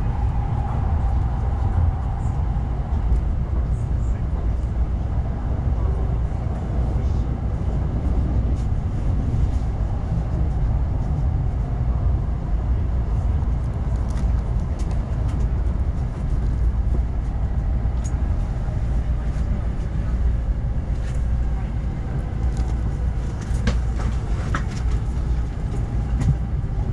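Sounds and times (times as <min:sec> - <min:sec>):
train rumble inside cabin: 0:00.0 - 0:26.9.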